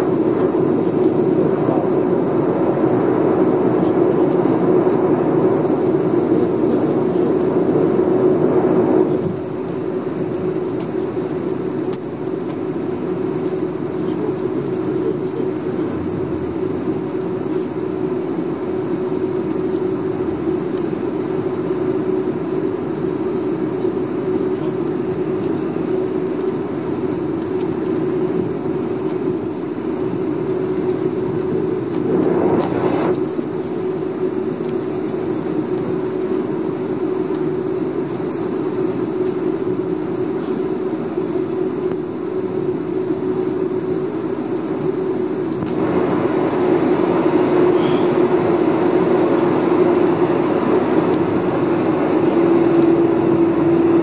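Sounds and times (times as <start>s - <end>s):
aircraft cabin hum: 0.0s - 54.0s.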